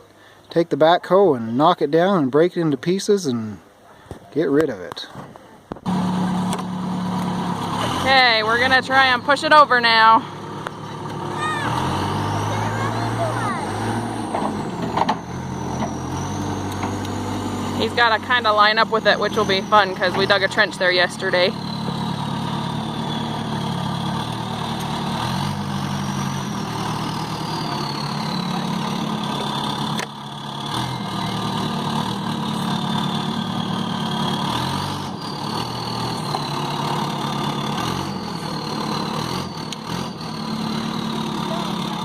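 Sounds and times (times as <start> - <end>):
diesel engine revving: 5.8 - 42.0.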